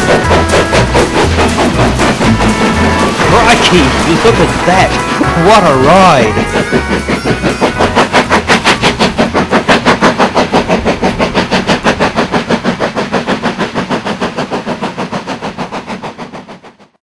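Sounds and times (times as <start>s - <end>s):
steam locomotive exhaust chuffing: 0.0s - 17.0s.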